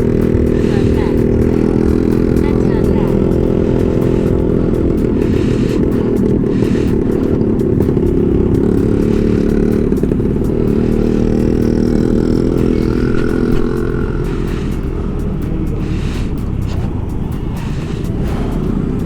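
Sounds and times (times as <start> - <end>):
road noise: 0.0 - 19.0
scooter engine cruising: 0.0 - 19.0
wind noise: 0.0 - 19.0.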